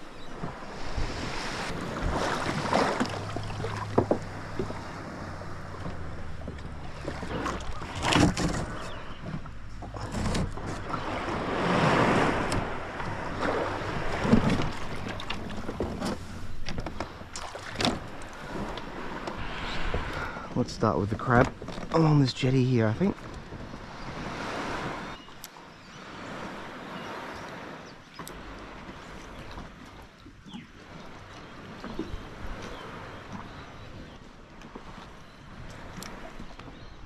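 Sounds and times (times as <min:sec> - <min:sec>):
water splashing against kayak hull: 0:00.0 - 0:37.0
wind buffeting microphone: 0:00.0 - 0:37.0.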